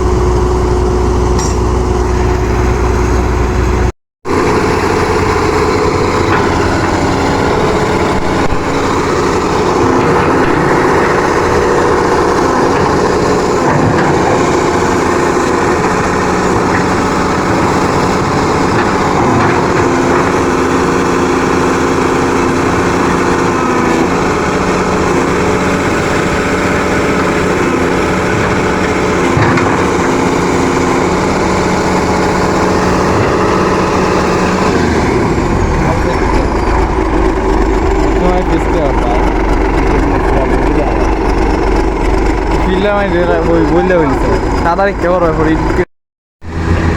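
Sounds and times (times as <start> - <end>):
diesel engine running loudly: 0.0 - 46.9.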